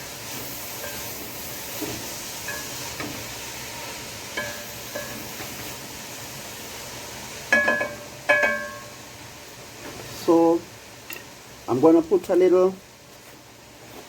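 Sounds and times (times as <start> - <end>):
pot steaming hiss: 0.0 - 14.0.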